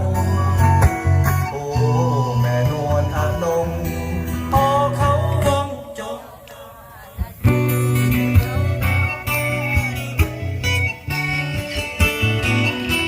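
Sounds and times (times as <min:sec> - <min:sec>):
lead guitar: 0:00.0 - 0:13.0
live band playing: 0:00.0 - 0:13.0.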